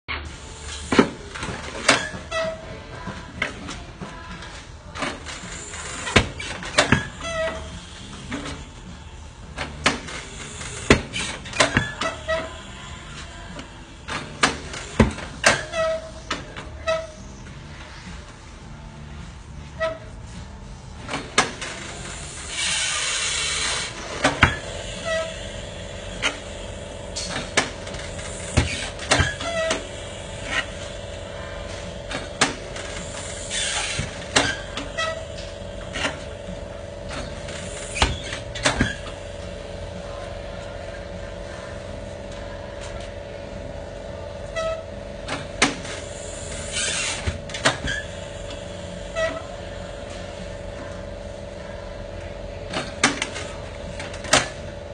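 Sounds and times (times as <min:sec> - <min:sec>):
steady hum: 0:00.1 - 0:54.9
air hissing: 0:00.2 - 0:40.6, 0:44.5 - 0:50.6.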